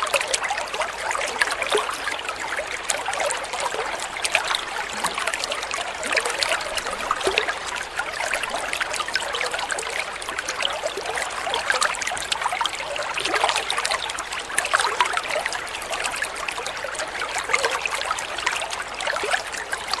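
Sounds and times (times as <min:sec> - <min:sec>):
aquarium waterfall trickling: 0:00.0 - 0:20.0.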